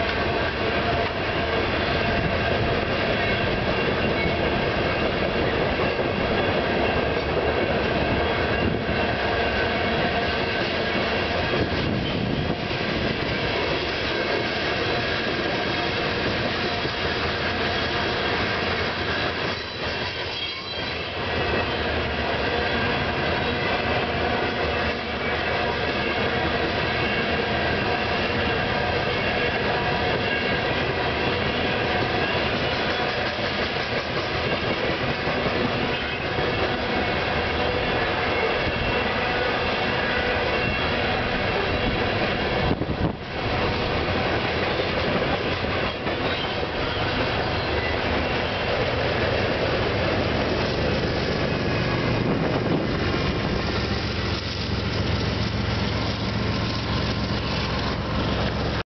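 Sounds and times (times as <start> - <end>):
train wheels rumbling on rail: 0.0 - 58.8.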